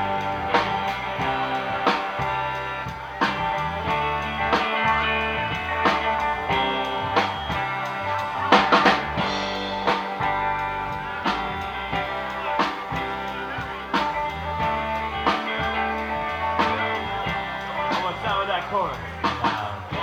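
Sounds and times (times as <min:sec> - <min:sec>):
electric guitar notes: 0:00.0 - 0:20.0.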